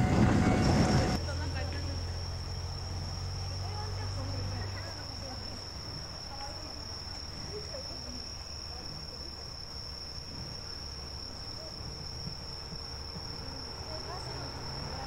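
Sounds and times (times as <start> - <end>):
crickets trilling: 0.0 - 15.0
low rumble from rail yard: 0.0 - 15.0.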